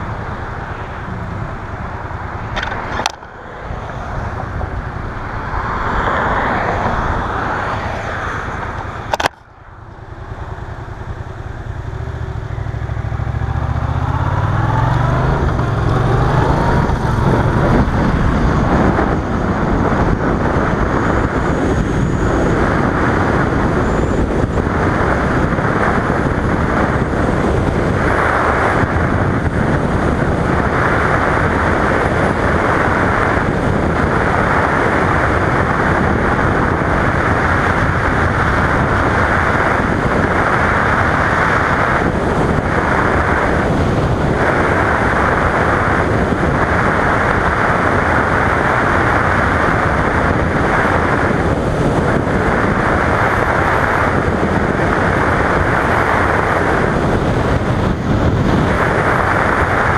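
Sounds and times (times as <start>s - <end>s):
motorcycle engine and road noise: 0.0s - 59.9s
wind rushing over microphone: 0.0s - 59.9s.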